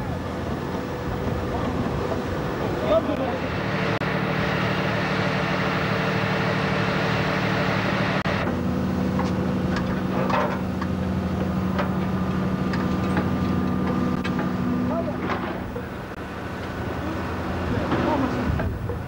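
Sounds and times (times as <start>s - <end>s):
ship engines humming: 0.0s - 19.0s.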